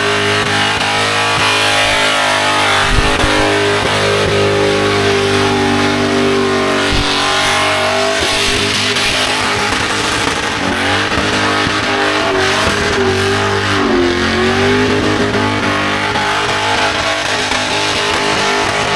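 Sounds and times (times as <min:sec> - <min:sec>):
car engine revving high: 0:00.0 - 0:18.9.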